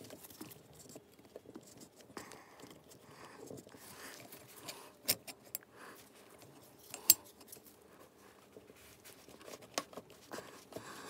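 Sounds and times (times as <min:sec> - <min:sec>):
quiet handling noise: 0:00.0 - 0:11.0.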